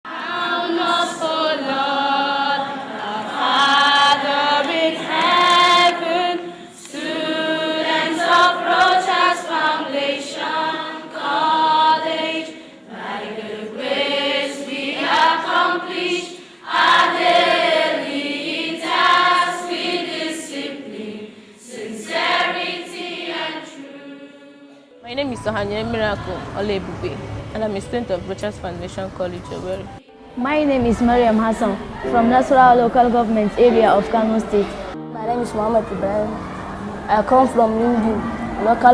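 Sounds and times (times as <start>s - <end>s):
choir singing held notes: 0.1s - 38.9s.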